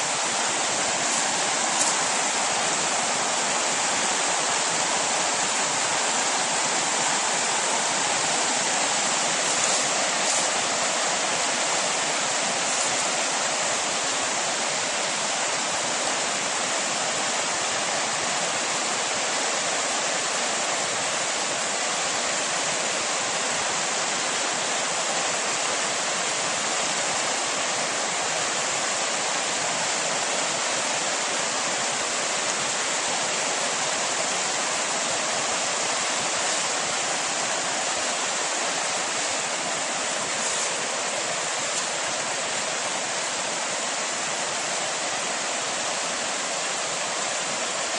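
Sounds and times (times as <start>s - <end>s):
river rushing over rocks: 0.0s - 47.9s.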